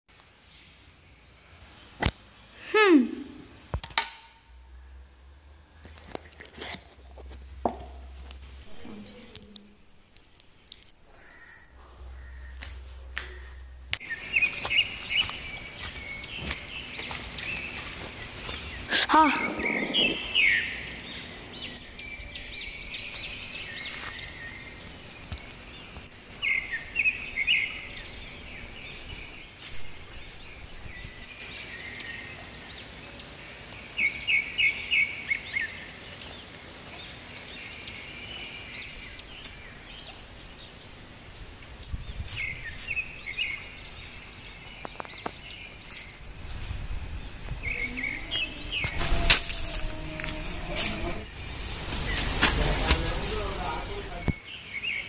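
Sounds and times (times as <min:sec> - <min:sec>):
steady background hiss: 0:00.1 - 0:55.0
birds chirping: 0:04.4 - 0:55.0.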